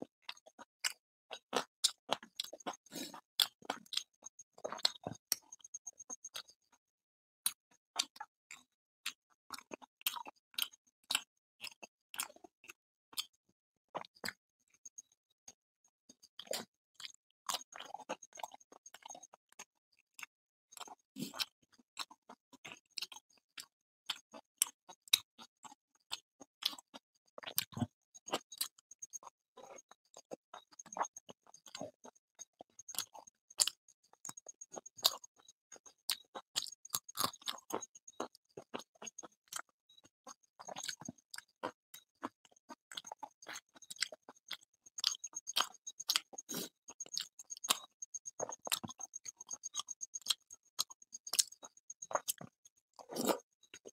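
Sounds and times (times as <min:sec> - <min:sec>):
wet chewing and mouth sounds: 0:00.1 - 0:06.8, 0:07.4 - 0:15.1, 0:16.1 - 0:53.9.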